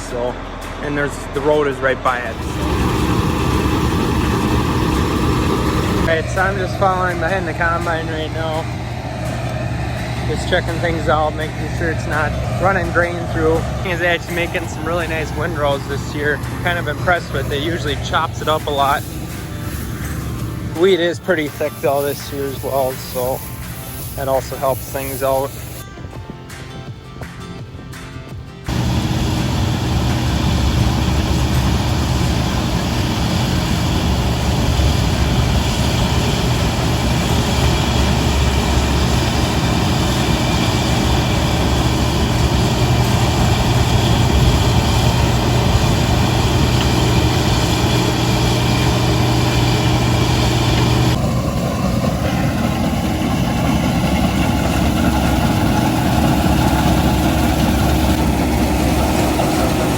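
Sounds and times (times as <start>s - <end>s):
heavy machinery engine humming: 0.0s - 25.8s, 28.7s - 59.9s.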